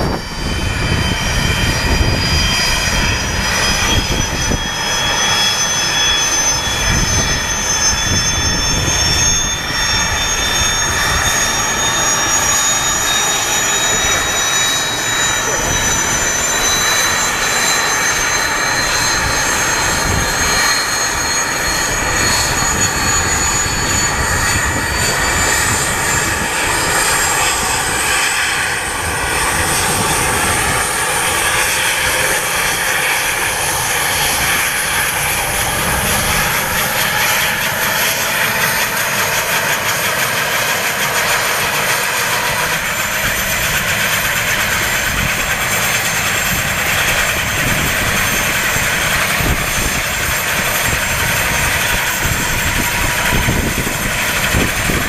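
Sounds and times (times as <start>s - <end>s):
helicopter turbine engines starting: 0.0s - 55.0s
high turbine whine rising: 0.0s - 55.0s.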